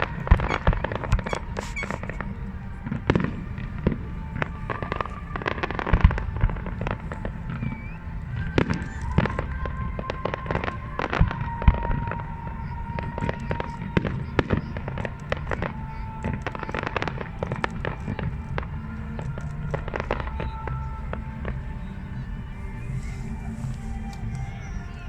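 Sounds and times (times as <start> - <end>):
fireworks bangs and crackles: 0.0 - 25.0
music: 0.0 - 25.0.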